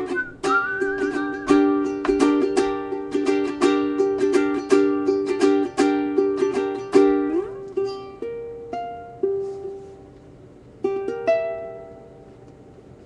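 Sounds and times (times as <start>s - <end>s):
ukulele plucked notes: 0.0s - 13.0s
ukulele strummed chords: 0.0s - 13.0s.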